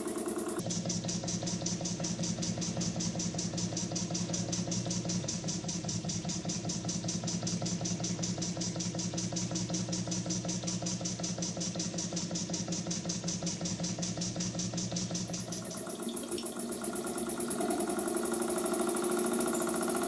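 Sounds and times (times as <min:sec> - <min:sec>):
model steam engine beating: 0:00.0 - 0:14.2, 0:15.0 - 0:20.0.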